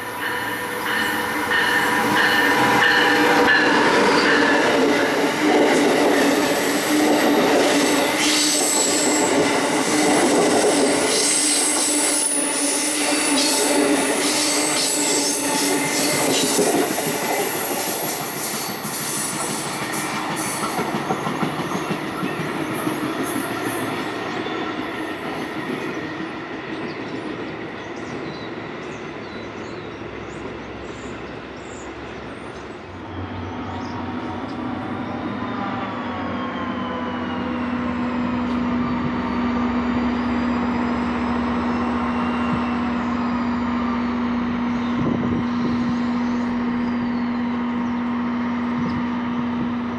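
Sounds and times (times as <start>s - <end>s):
train wheels rumbling and squealing: 0.0s - 49.9s.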